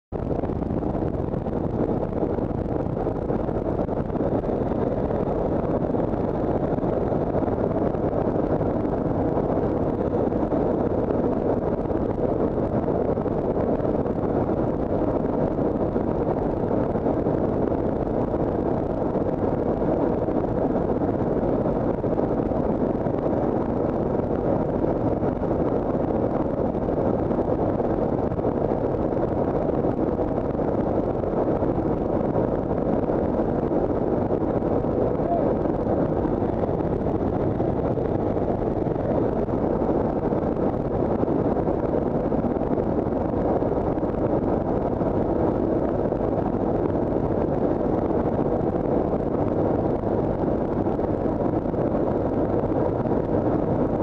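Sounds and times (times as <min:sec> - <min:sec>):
aircraft engine and airflow drone: 0:00.1 - 0:54.0.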